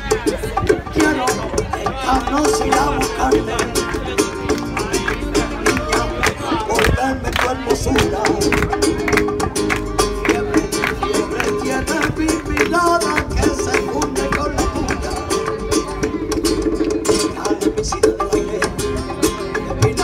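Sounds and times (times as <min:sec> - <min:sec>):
acoustic guitar strummed fast: 0:00.0 - 0:20.0.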